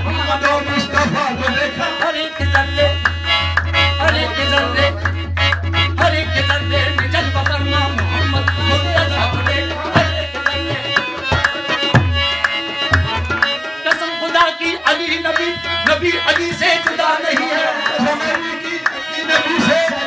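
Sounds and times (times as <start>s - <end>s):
harmonium chords: 0.0s - 20.0s
tabla rhythm: 0.0s - 20.0s.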